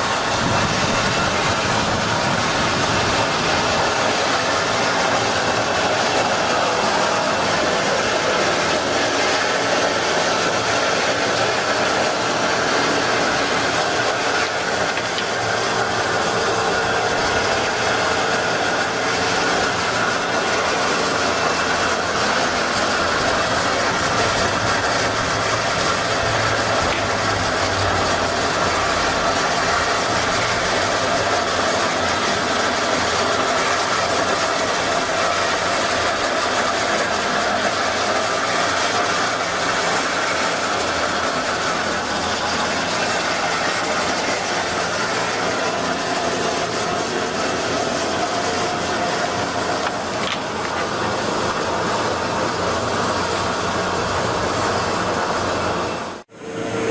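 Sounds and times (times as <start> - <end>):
vehicle running noise: 0.0 - 56.9.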